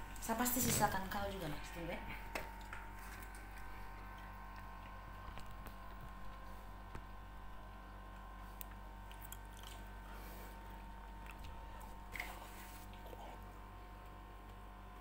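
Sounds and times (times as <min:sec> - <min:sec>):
low electrical hum: 0:00.0 - 0:15.0
soft chewing: 0:02.2 - 0:15.0.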